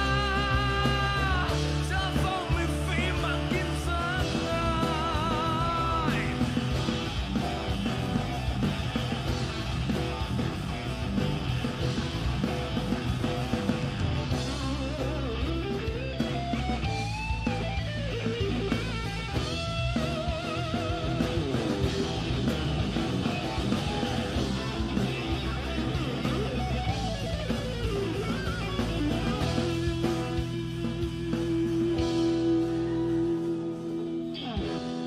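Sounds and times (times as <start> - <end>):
electric guitar lead: 0.0 - 35.0
live rock band playing: 0.0 - 35.0.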